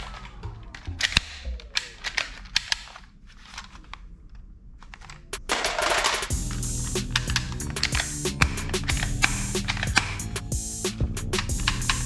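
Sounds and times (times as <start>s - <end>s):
toy gun clicks and snaps: 0.0s - 4.0s, 4.8s - 10.3s, 11.4s - 12.0s.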